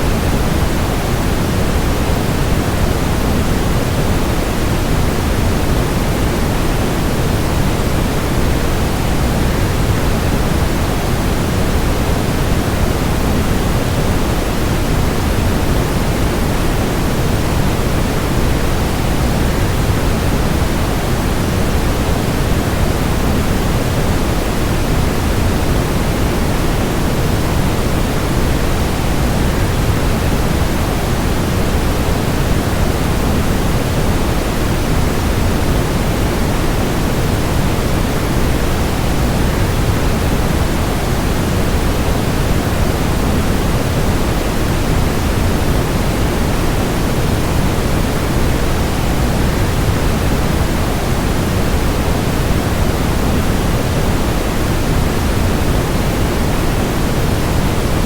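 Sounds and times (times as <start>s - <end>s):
steady noise: 0.0s - 58.0s.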